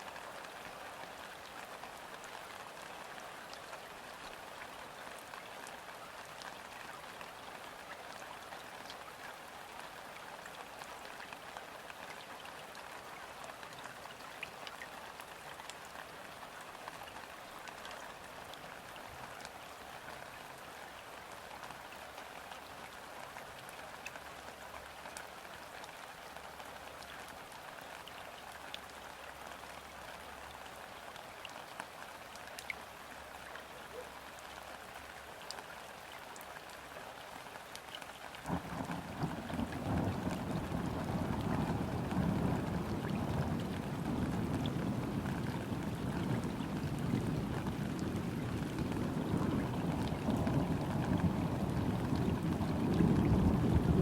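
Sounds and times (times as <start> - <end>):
rain falling on river: 0.0 - 54.0.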